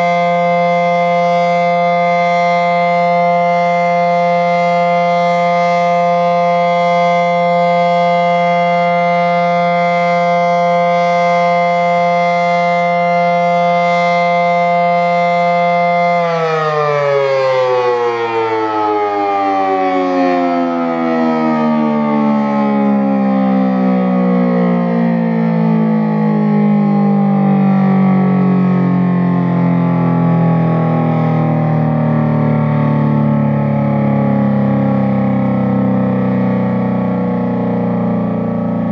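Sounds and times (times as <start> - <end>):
dual-tone warning siren: 0.0 - 38.9.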